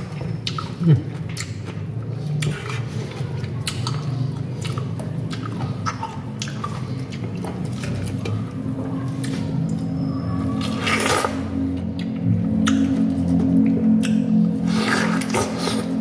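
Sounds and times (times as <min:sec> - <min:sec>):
wet chewing mouth clicks: 0:00.0 - 0:09.9, 0:10.6 - 0:16.0
steady low hum: 0:00.0 - 0:16.0.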